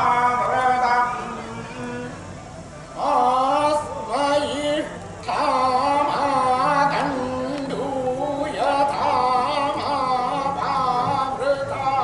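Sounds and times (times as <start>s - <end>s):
men chanting a hymn: 0.0s - 2.3s, 3.0s - 12.0s.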